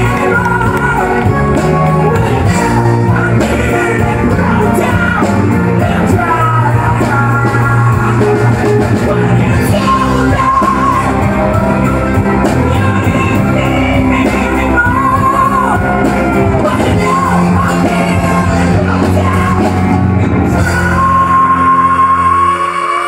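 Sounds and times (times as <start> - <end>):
drums: 0.0 - 23.0
electric guitar: 0.0 - 23.0
keyboard: 0.0 - 23.0
man singing along: 0.0 - 23.0.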